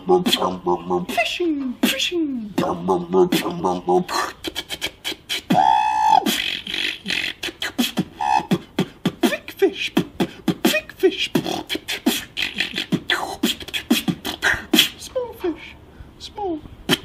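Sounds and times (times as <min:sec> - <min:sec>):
man beatboxing: 0:00.0 - 0:17.0.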